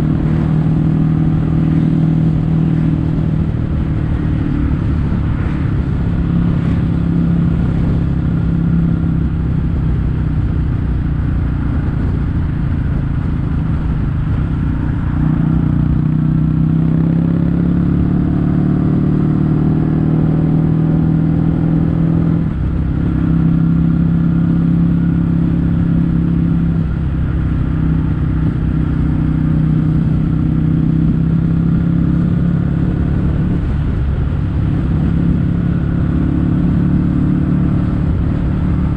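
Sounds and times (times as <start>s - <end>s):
motorcycle engine exhaust note: 0.0s - 38.9s.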